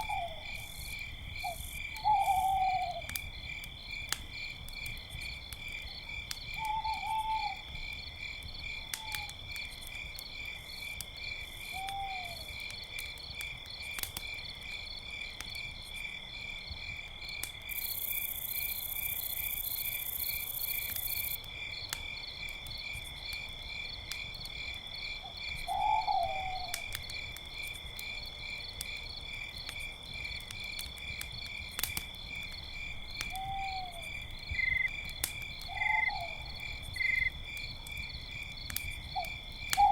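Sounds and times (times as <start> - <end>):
campfire crackles: 0.0 - 39.9
crickets chirping: 0.0 - 39.9.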